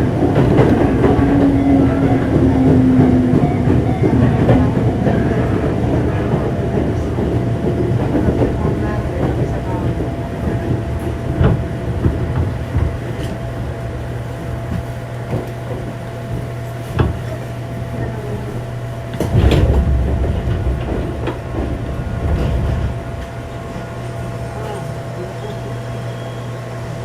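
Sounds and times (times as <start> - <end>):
train car body clatter: 0.0 - 25.2
train motor hum and whine: 0.0 - 27.0.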